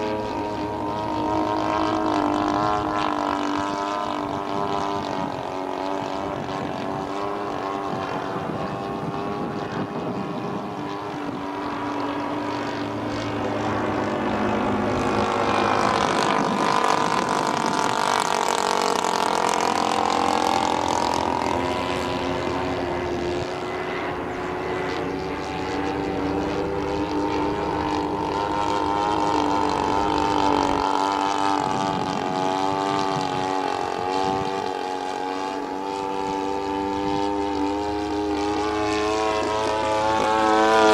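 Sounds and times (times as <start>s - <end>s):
model airplane engine flying: 0.0s - 40.9s.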